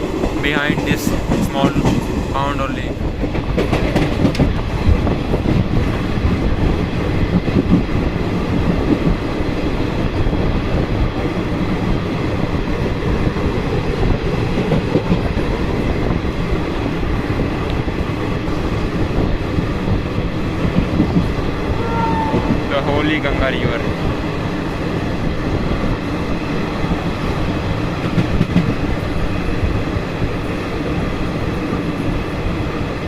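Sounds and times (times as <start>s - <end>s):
clickety-clack of rail joints: 0.0s - 33.0s
train wheels rumbling on track: 0.0s - 33.0s.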